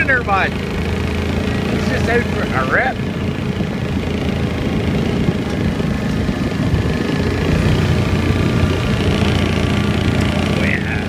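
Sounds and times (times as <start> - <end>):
motorbike engine running: 0.0 - 11.0
tractor engine running: 0.0 - 11.0.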